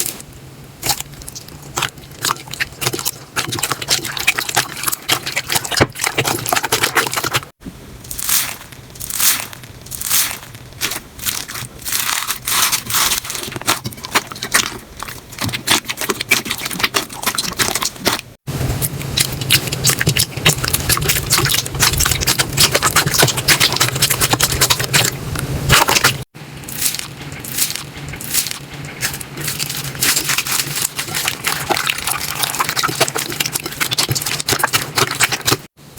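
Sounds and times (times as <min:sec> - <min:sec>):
slime crackling and popping: 0:00.8 - 0:35.8.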